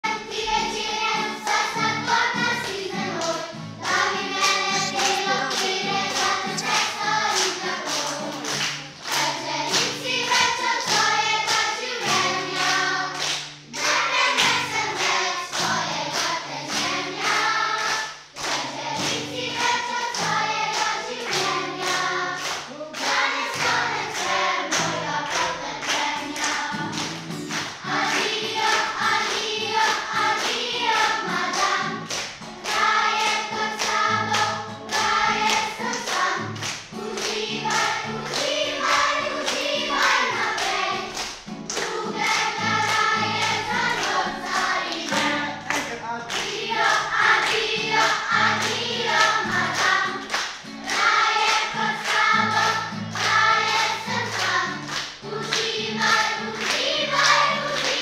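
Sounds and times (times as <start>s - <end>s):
acoustic guitar: 0.0s - 58.0s
children singing: 0.0s - 58.0s
hands clapping to a beat: 0.1s - 58.0s.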